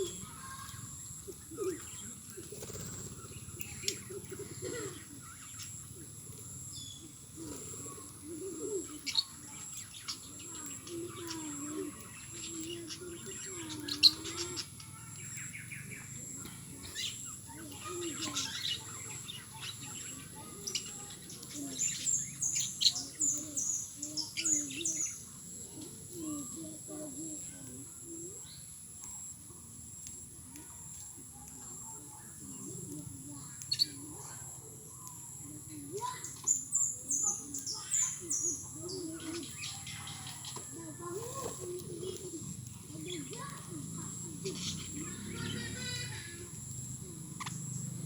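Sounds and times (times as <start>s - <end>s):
pet birds chirping: 0.0s - 48.0s.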